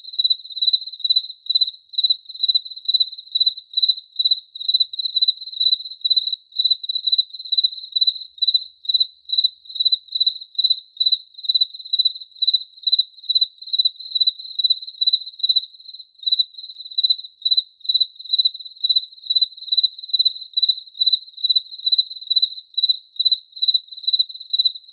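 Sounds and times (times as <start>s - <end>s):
cricket chirping: 0.0s - 24.9s.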